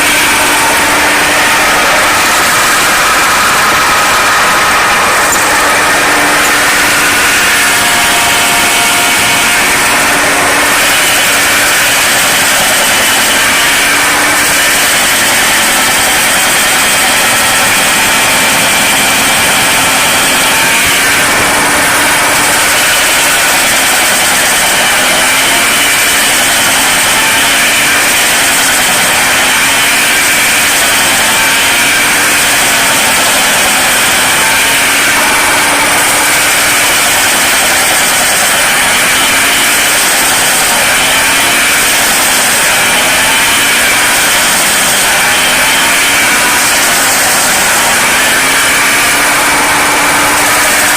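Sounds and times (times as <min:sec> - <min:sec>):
grinder drive whine: 0:00.0 - 0:50.9
tractor diesel engine running: 0:00.0 - 0:50.9.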